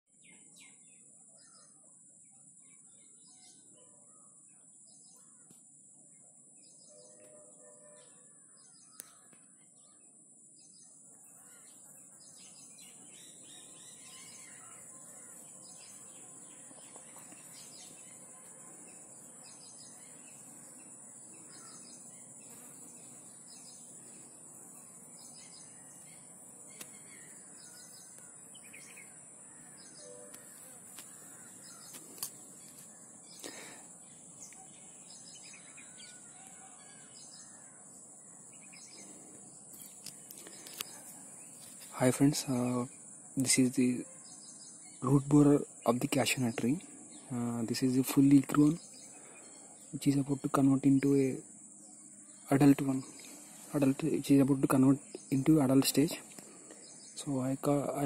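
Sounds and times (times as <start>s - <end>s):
small birds chirping: 0.1s - 58.0s.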